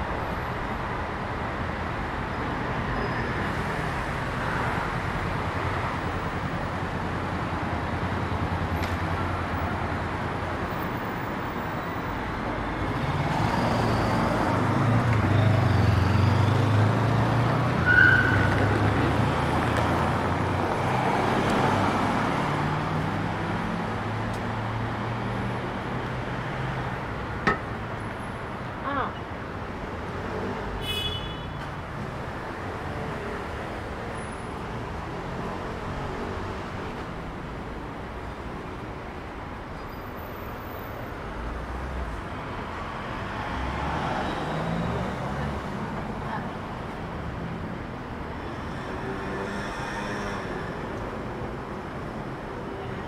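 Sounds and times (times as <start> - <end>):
cars passing on road: 0.0 - 53.0.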